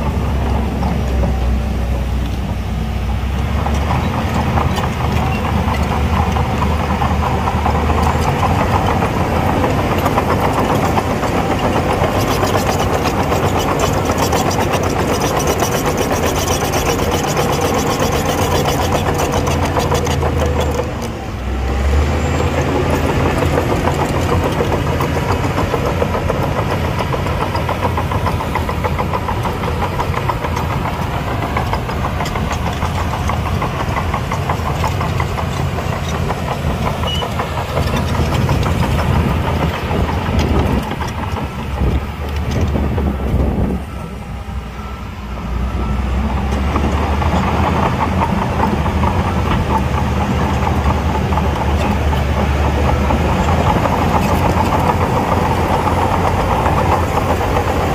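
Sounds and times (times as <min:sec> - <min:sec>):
diesel engine clattering: 0:00.0 - 0:57.9.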